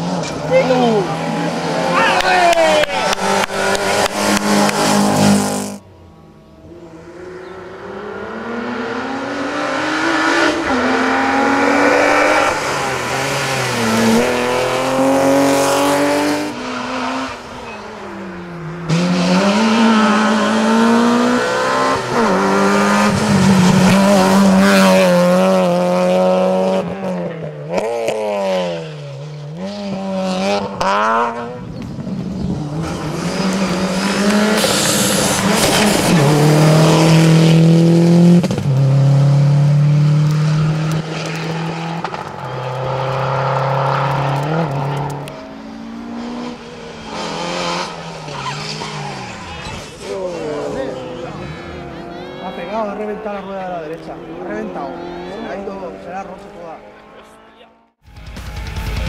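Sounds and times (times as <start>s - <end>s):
rally car engine revving: 0.0s - 5.8s, 6.6s - 58.0s.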